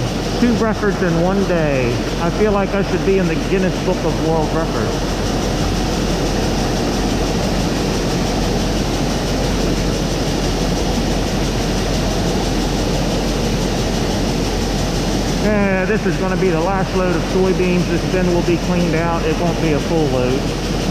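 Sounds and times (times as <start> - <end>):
heavy engine droning: 0.0 - 20.9.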